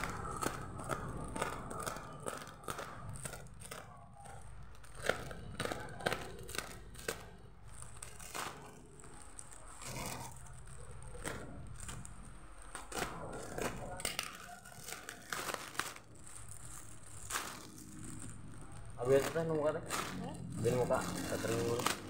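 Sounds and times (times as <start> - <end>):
blade cutting plastic bag: 0.0 - 22.0
plastic crinkling and ripping: 0.0 - 22.0.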